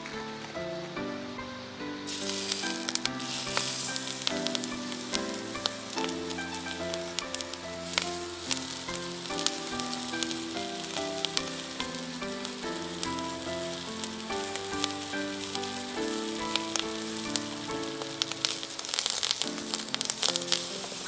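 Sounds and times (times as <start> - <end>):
background music melody: 0.0 - 21.0
food sizzling on a griddle: 1.8 - 21.0.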